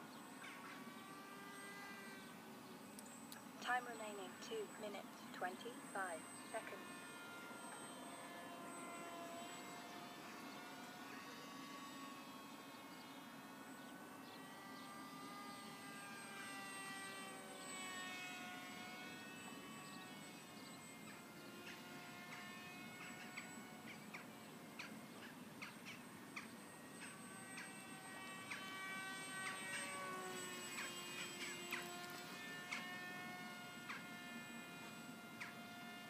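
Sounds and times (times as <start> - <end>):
model plane motor whine: 0.0 - 36.0.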